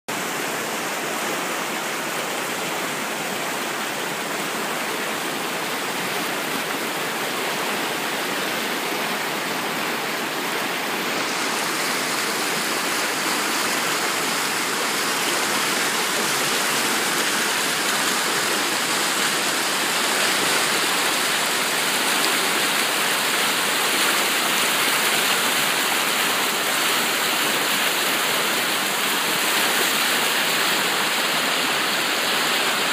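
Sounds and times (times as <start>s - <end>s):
water rushing over rocks: 0.1s - 32.9s.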